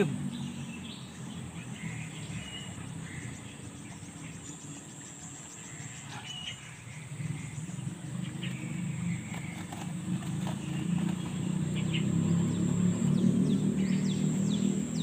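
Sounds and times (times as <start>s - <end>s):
birds chirping: 0.0s - 15.0s
high insect drone: 0.0s - 15.0s.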